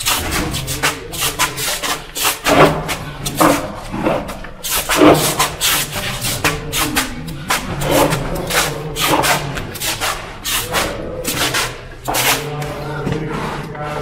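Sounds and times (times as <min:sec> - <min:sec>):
scuffing and rubbing: 0:00.0 - 0:14.0.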